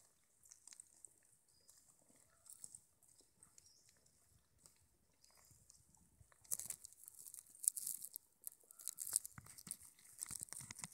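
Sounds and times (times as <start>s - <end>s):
crunching of dry leaves and gravel: 0.0s - 10.9s.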